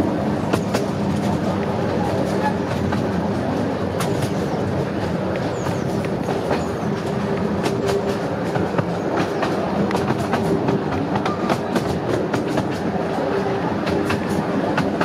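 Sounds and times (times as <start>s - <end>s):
wheels clicking over rail joints: 0.1s - 15.0s.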